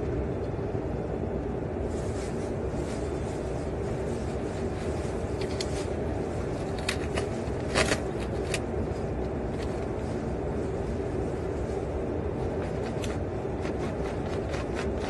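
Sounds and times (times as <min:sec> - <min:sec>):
low jet cabin rumble: 0:00.0 - 0:15.0.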